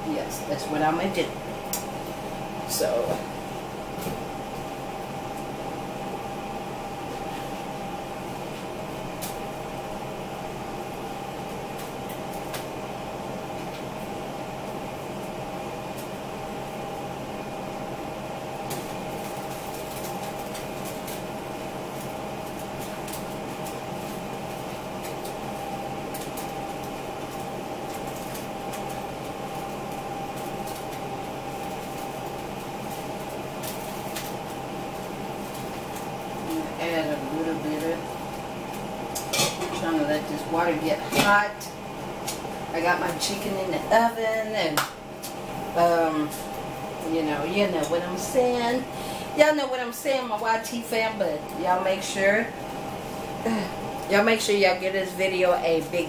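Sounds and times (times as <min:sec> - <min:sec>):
kitchen appliance humming: 0:00.0 - 0:56.0.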